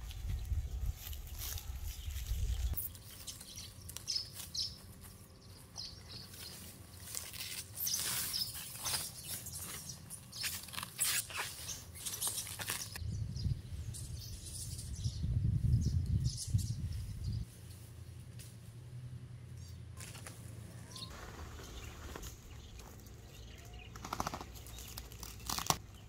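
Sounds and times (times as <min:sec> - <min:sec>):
birds chirping: 0:00.1 - 0:18.2, 0:20.6 - 0:26.0.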